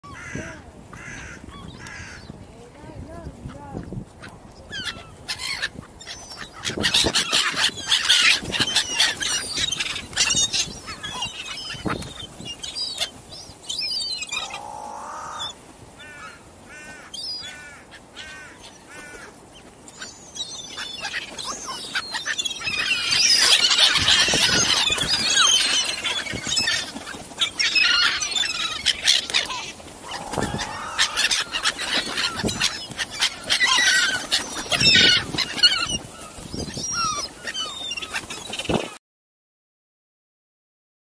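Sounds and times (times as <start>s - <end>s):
gulls and crows calling: 0.0s - 2.4s, 3.3s - 39.0s.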